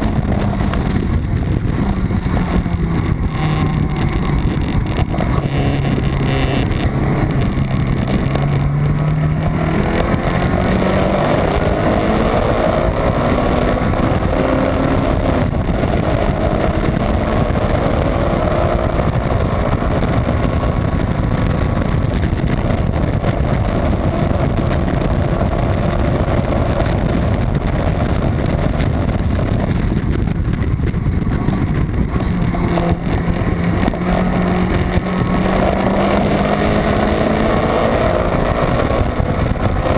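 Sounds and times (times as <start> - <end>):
race car engine revving: 0.0 - 39.9
road and wind noise: 0.0 - 39.9.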